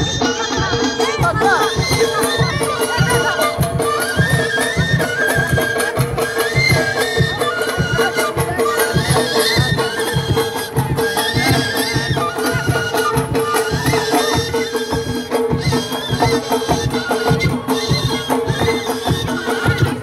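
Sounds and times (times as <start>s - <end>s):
drum beats: 0.0s - 20.0s
wavering high folk melody: 0.0s - 20.0s.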